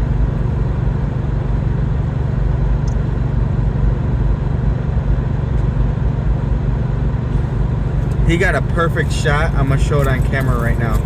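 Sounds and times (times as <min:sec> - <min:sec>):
car interior engine and road rumble: 0:00.0 - 0:11.0.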